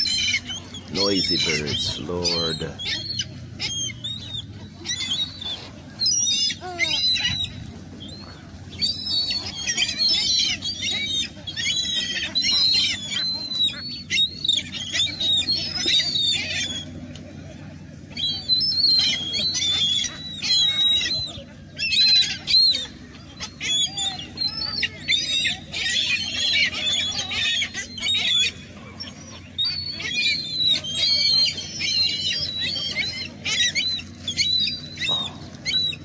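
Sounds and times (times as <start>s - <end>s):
seagulls calling: 0.0s - 36.0s
steady low hum: 0.0s - 36.0s.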